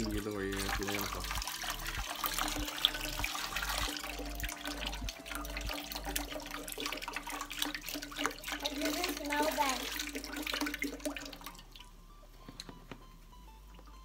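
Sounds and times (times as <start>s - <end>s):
liquid pouring into pot: 0.0s - 12.0s
faint steady hum: 0.0s - 14.0s.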